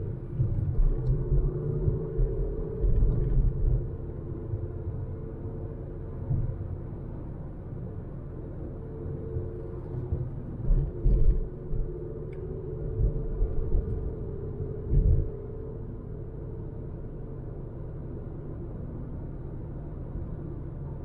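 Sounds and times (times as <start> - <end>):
moving car rumble: 0.0 - 21.0.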